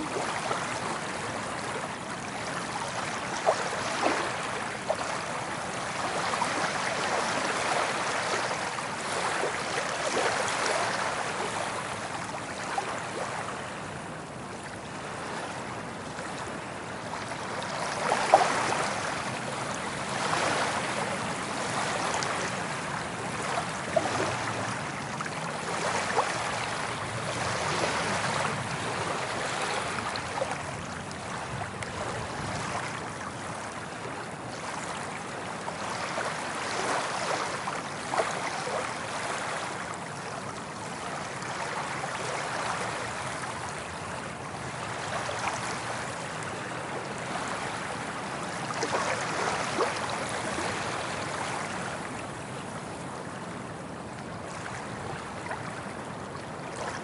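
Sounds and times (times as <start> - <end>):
ocean waves washing on beach: 0.0 - 57.0.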